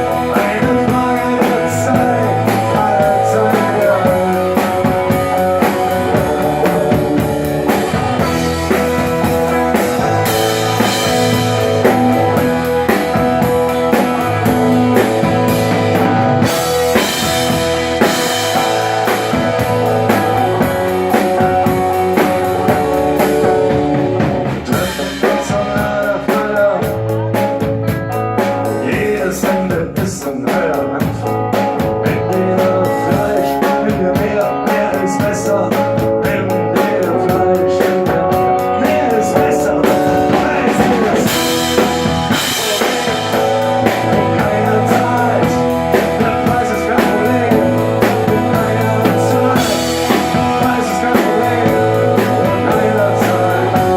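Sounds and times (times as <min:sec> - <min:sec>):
band playing rock music: 0:00.0 - 0:53.9.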